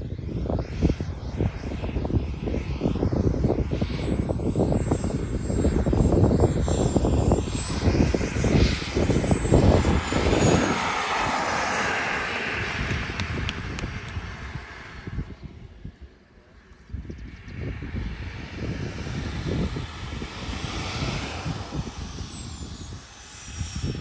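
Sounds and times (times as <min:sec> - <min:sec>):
gusty low rumble: 0:00.0 - 0:24.0
jet turbine whine: 0:00.0 - 0:24.0.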